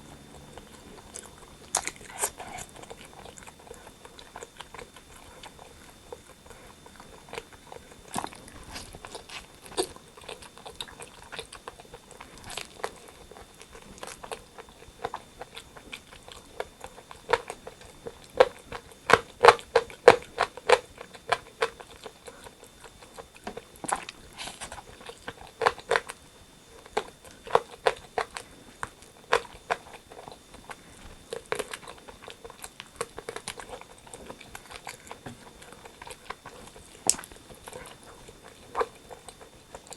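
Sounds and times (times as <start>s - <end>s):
biting and chewing crispy food: 0.0s - 39.9s
crunchy crackles: 0.0s - 39.9s.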